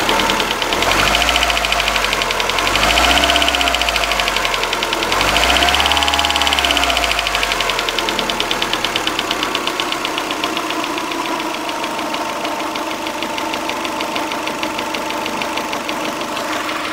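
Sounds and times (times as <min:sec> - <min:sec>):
car engine revving: 0:00.0 - 0:16.9
fast even engine knock: 0:00.0 - 0:16.9.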